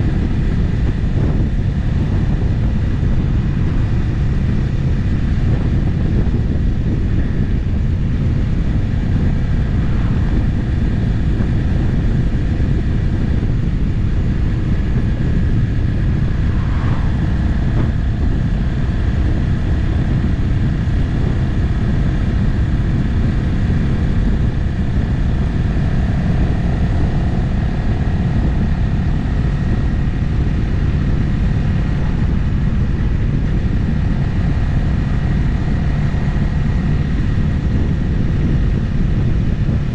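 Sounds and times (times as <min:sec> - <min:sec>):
motorcycle engine cruising: 0:00.0 - 0:39.9
road noise: 0:00.0 - 0:39.9.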